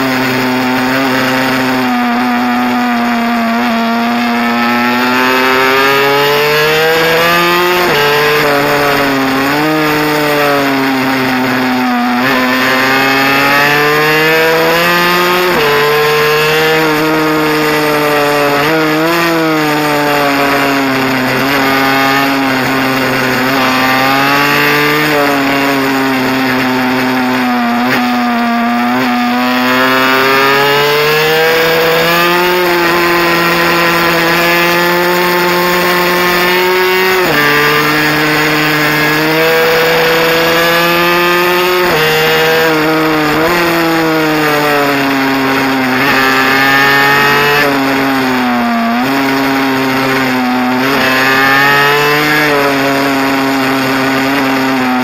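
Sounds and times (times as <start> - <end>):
two-stroke motorbike engine revving: 0.0 - 55.0.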